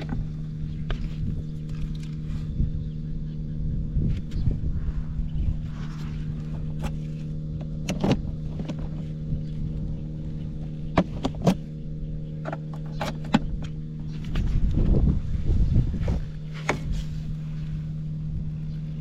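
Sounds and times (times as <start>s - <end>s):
scooter engine idling: 0.0s - 19.0s.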